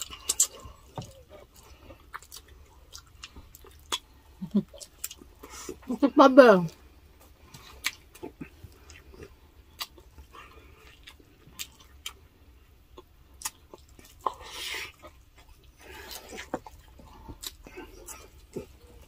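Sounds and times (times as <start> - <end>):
chewing with wet mouth clicks: 0.0 - 5.9, 7.2 - 19.0.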